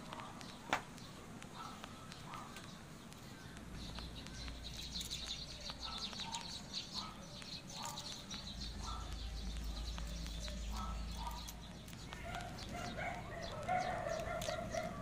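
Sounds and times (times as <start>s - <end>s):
high bird chirps: 0.1s - 15.0s.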